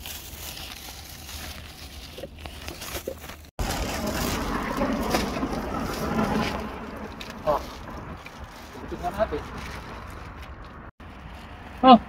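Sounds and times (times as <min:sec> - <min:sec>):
rustling: 0:00.0 - 0:11.8
handling sounds among trash bags: 0:00.0 - 0:11.9.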